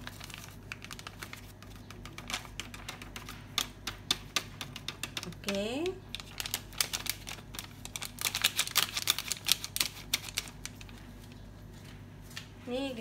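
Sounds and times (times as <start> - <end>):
plastic packet crinkling: 0.0 - 11.4.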